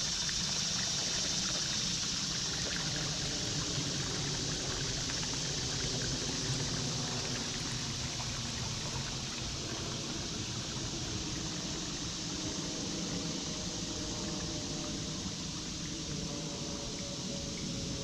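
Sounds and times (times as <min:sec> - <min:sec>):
creek babbling over stones: 0:00.0 - 0:18.0.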